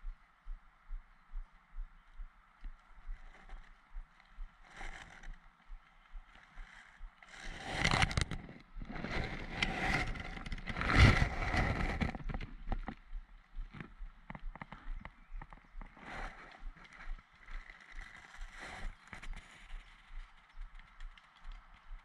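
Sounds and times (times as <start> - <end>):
branches and twigs rustling: 1.8 - 22.0.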